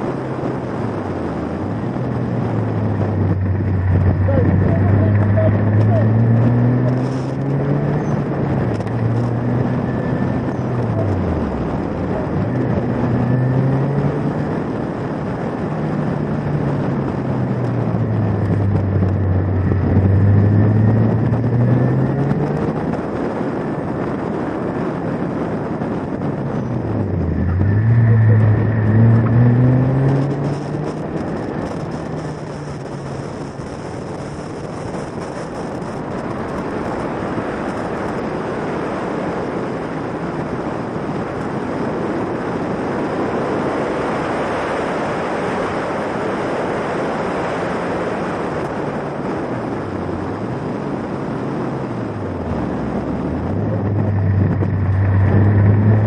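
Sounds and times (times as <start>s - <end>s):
car engine revving: 0.0s - 46.6s, 48.6s - 56.0s
wind and road noise: 0.0s - 56.0s.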